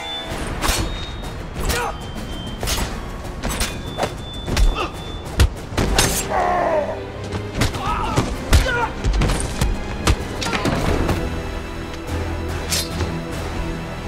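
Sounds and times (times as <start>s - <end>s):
dramatic music score: 0.0s - 14.0s.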